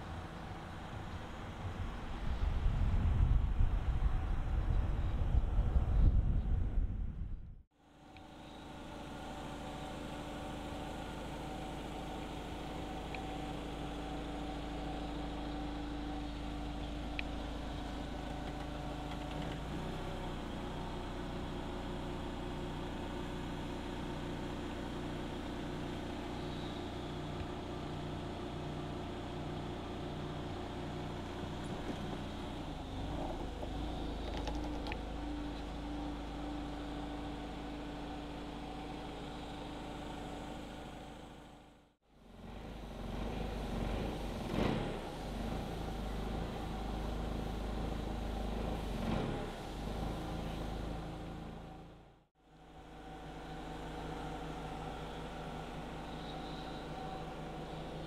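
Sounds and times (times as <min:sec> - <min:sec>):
forklift engine idling: 0:07.9 - 0:44.3, 0:45.1 - 0:58.0.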